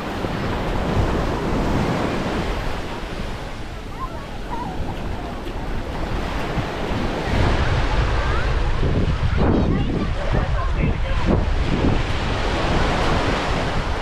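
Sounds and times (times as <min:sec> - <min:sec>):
waves washing onto beach: 0:00.0 - 0:14.0
wind rumbling on microphone: 0:00.0 - 0:14.0.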